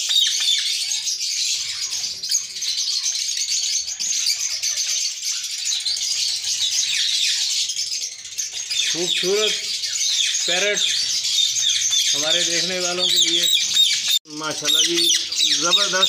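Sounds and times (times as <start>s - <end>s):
caged birds chattering: 0.0s - 16.0s.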